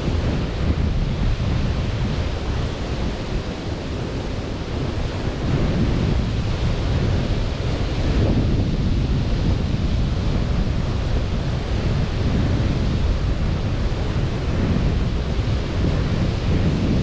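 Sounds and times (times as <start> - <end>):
sea surf washing on beach: 0.0 - 17.0
wind buffeting microphone: 0.0 - 17.0.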